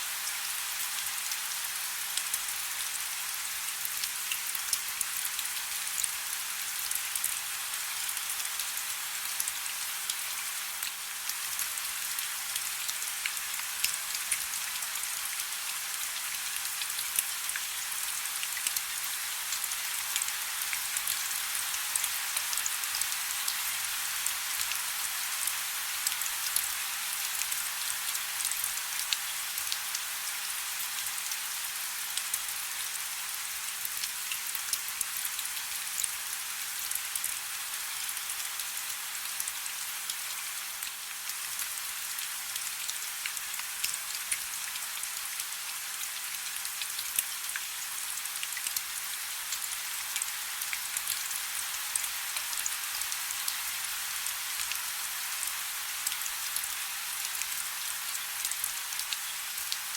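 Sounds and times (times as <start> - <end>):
soft steady rain: 0.0 - 59.9.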